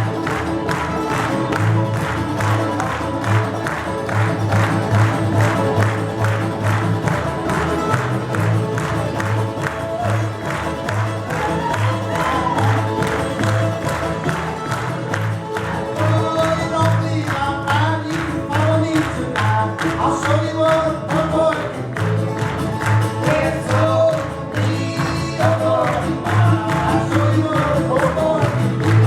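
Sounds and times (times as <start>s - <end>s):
fiddle and accordion melody: 0.0s - 29.0s
pulsing bass notes: 0.0s - 29.0s
string band music: 0.0s - 29.0s
strummed rhythm: 0.0s - 29.0s.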